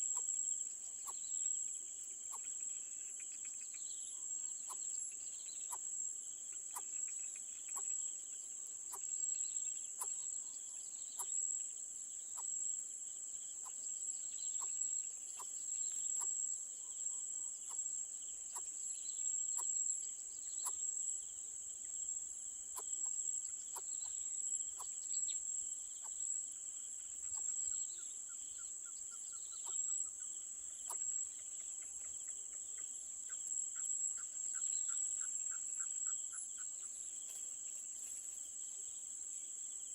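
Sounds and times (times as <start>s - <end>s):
high-pitched insect chorus: 0.0s - 39.9s
insect chirps and ticks: 0.0s - 39.9s.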